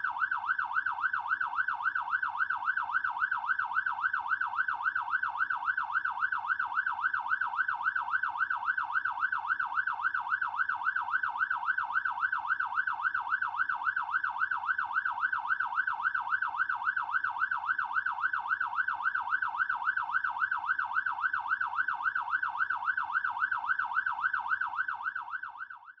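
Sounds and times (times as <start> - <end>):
fire truck siren yelping: 0.0 - 26.0.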